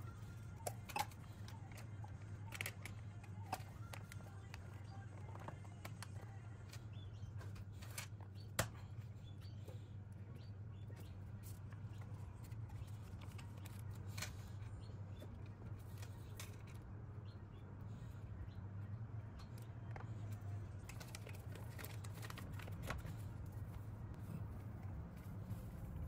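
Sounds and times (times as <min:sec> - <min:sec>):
steady low hum: 0:00.0 - 0:26.0
light clicks and rustles: 0:00.6 - 0:26.0.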